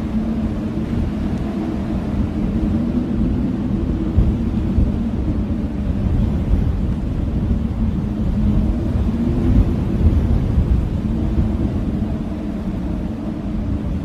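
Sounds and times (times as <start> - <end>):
blizzard wind howling: 0.0 - 14.0.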